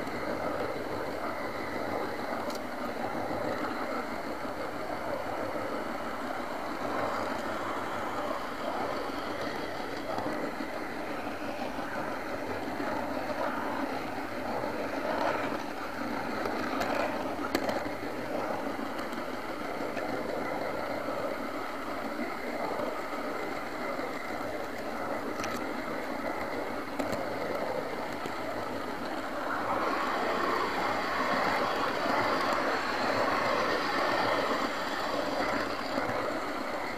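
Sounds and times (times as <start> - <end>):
model train motor whirring: 0.0 - 36.9.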